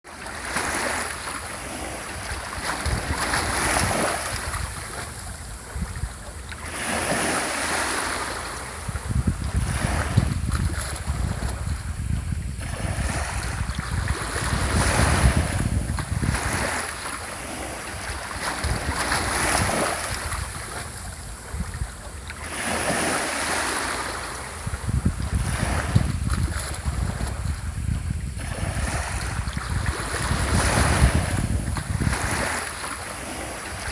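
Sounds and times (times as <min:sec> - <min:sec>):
sea waves washing onto shore: 0:00.1 - 0:33.9
wind buffeting microphone: 0:00.4 - 0:23.7, 0:24.4 - 0:33.9.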